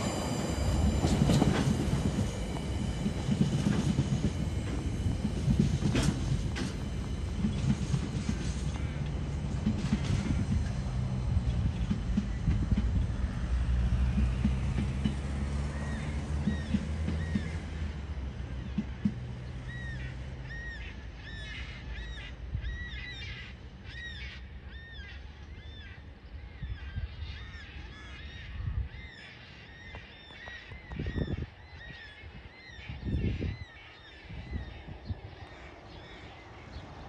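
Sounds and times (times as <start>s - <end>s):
diesel freight train rumble: 0.0s - 37.0s.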